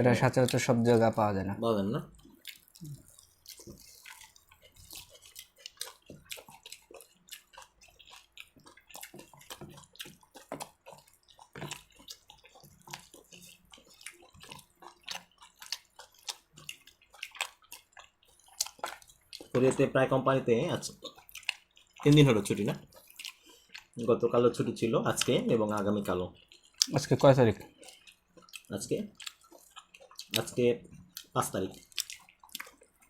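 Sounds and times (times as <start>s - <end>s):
people chewing: 0.0s - 33.0s.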